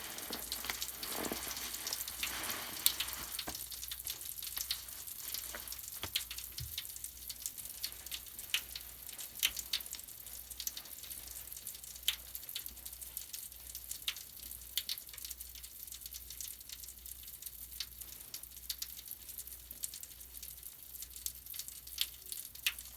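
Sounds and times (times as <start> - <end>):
suds crackling and fizzing: 0.0 - 22.9.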